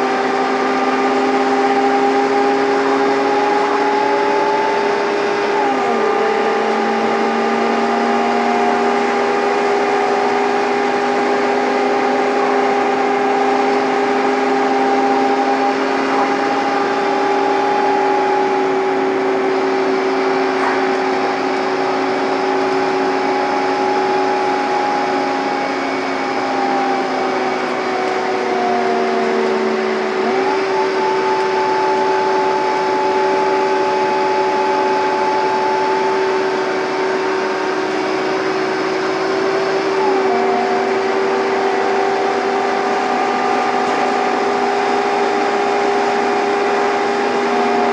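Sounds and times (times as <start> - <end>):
whining engine thrash: 0.0 - 41.6
bus engine pulling hard: 0.0 - 47.9.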